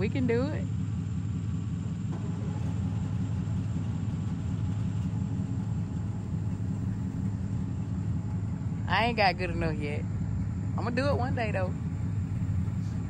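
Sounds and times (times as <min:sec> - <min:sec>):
vehicle engine running slowly: 0:00.0 - 0:13.0.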